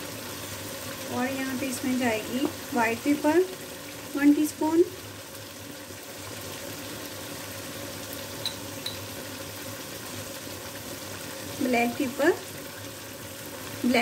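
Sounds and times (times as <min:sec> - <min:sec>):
chicken sizzling in a wok: 0:00.0 - 0:14.0.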